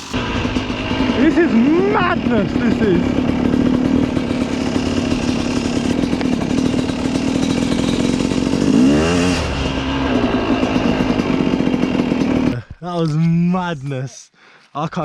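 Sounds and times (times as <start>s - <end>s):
two-stroke dirt bike engine revving: 0.0s - 12.7s.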